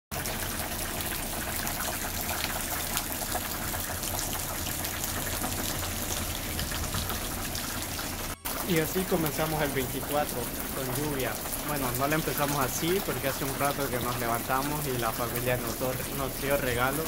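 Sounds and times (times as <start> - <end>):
water running: 0.1 - 17.0
raindrops ticking: 0.2 - 17.0
steady rain hissing: 3.0 - 17.0.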